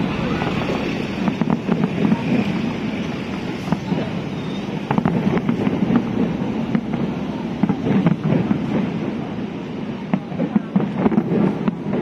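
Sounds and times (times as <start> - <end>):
fireworks popping and crackling: 0.0 - 12.0
wind on microphone: 0.0 - 12.0.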